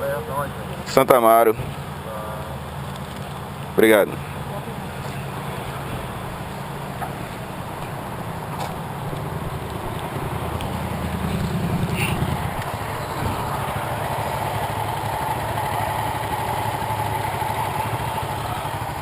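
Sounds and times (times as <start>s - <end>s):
motorcycle engine running: 1.7s - 19.0s.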